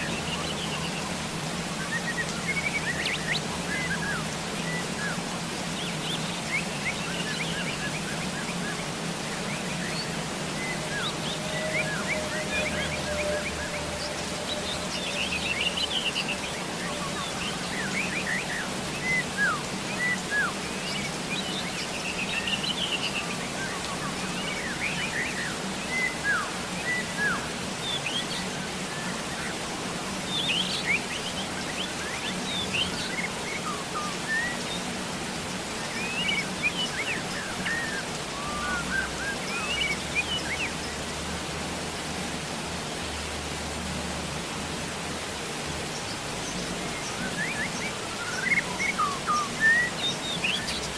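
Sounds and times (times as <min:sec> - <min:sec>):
birds chirping: 0:00.0 - 0:50.9
rain hiss: 0:00.0 - 0:50.9.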